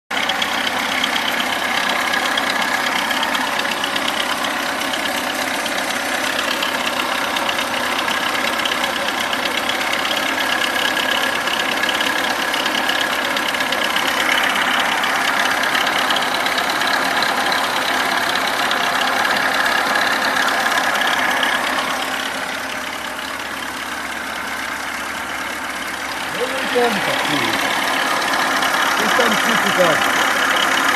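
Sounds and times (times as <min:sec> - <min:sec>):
car engine running: 0:00.1 - 0:30.9
rapid knocking inside engine: 0:00.1 - 0:30.9.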